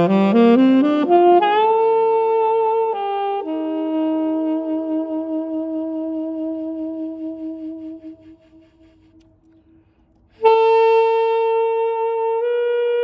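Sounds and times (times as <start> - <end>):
alto saxophone notes: 0.0 - 13.0.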